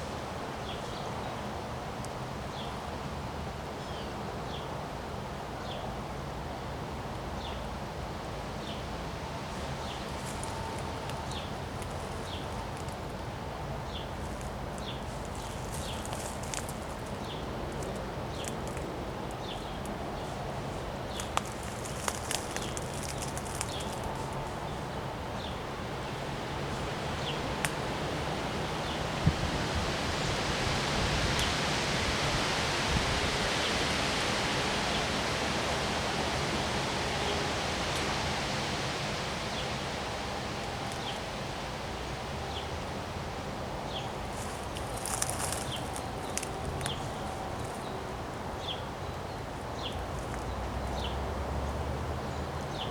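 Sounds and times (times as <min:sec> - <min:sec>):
wind rustling leaves: 0:00.0 - 0:52.9.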